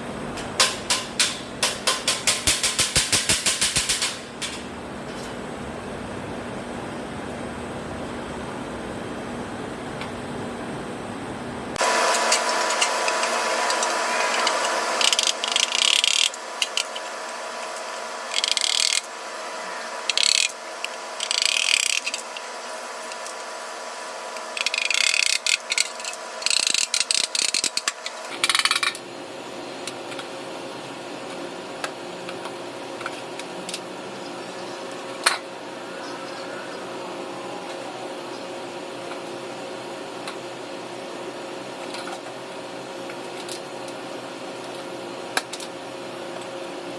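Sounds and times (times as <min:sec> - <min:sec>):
machine hum: 0:00.0 - 0:46.9.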